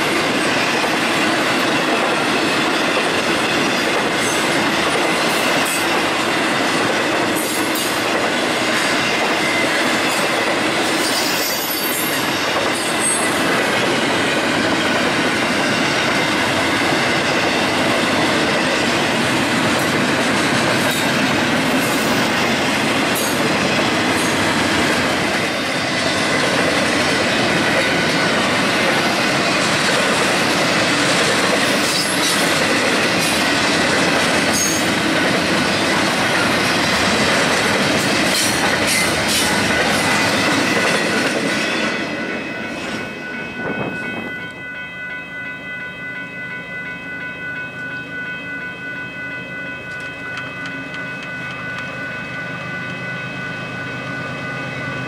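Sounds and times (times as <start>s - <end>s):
train wheels rumbling on rail: 0.0s - 45.7s, 49.7s - 55.0s.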